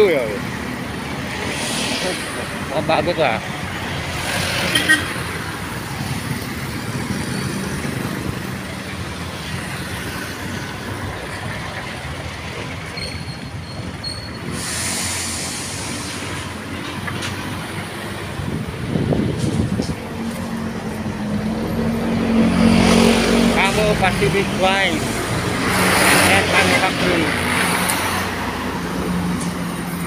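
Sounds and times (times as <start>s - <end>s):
city road traffic rumble: 0.0s - 30.0s.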